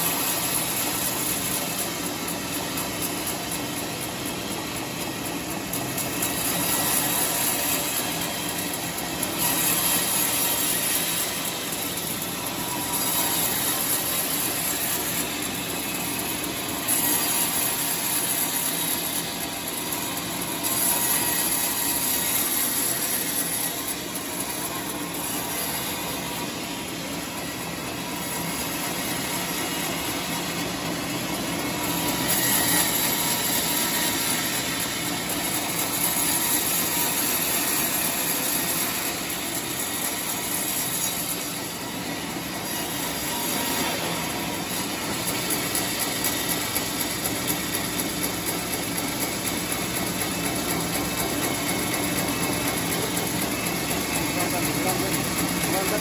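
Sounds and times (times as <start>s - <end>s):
sawmill engine and blade running: 0.0s - 56.0s.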